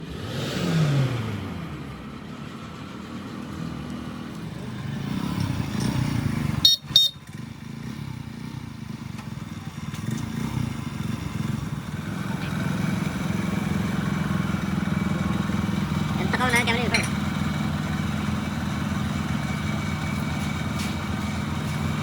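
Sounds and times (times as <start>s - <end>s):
engine running with uneven rumble: 0.0s - 22.0s.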